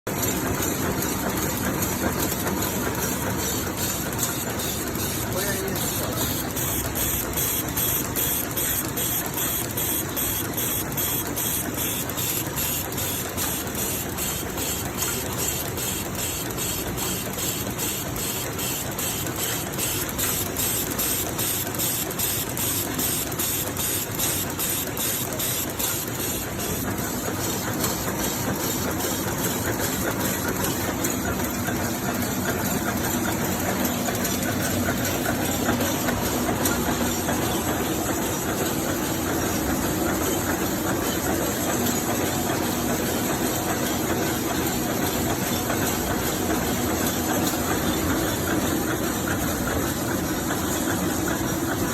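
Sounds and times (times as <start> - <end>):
packing machine hum: 0.1 - 51.9.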